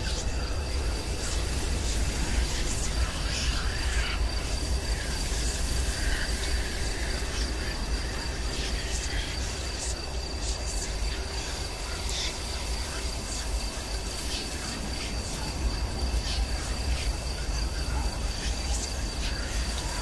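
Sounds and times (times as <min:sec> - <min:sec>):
cricket-like trill: 0:00.0 - 0:20.0.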